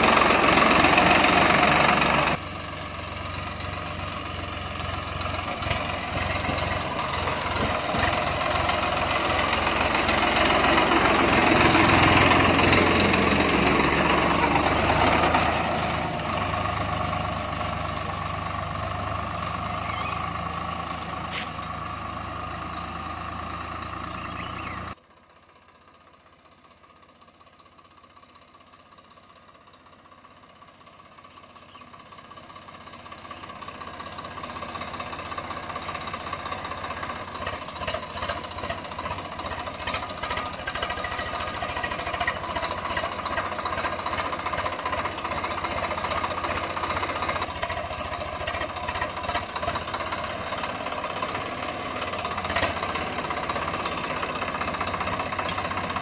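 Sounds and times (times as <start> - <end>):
tractor diesel engine passing: 0.0 - 56.0.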